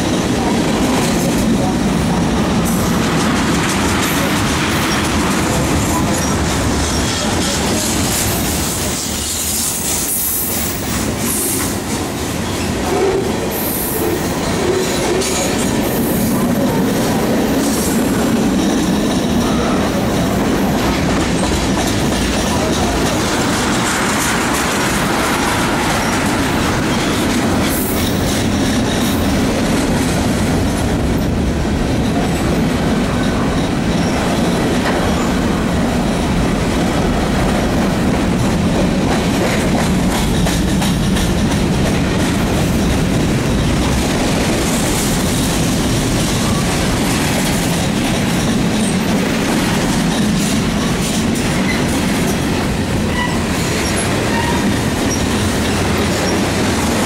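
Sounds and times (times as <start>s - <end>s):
freight train wheels rumbling: 0.0s - 57.0s
wheels clacking over rail joints: 0.0s - 57.0s.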